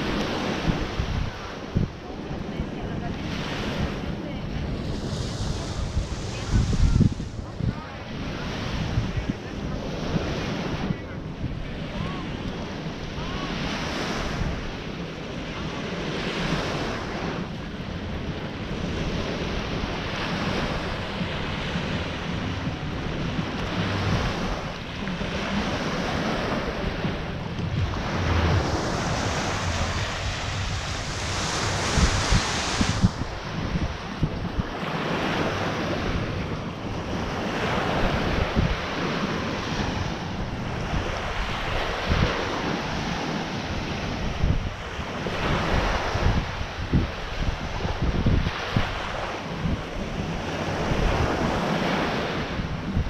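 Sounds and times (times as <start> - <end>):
small waves washing onto beach: 0.0 - 53.0
wind rumbling on microphone: 0.0 - 53.0.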